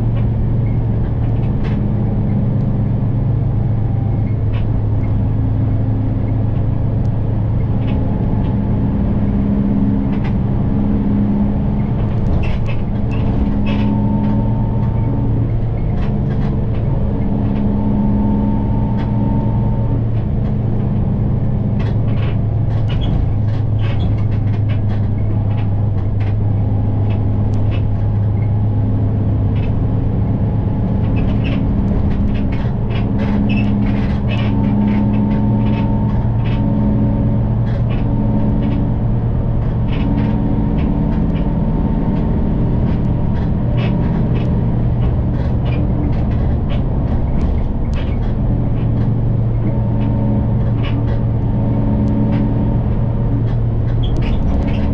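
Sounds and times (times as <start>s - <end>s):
bus engine and road drone: 0.0s - 54.9s
light rattles and clicks: 0.0s - 54.9s.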